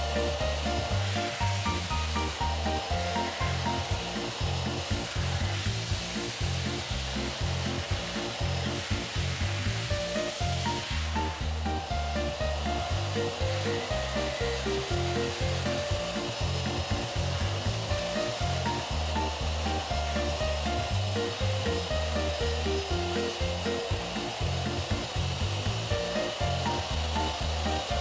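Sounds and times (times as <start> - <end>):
background music with steady beat: 0.0 - 28.0
steady hiss: 0.0 - 28.0.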